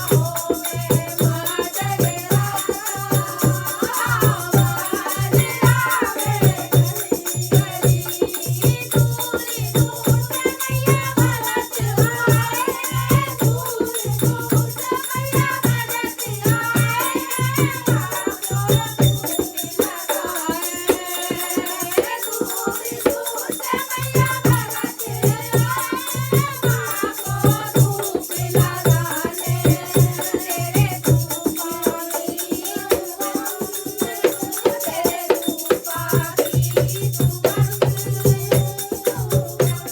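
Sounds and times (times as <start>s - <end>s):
person singing devotional song: 0.0s - 39.9s.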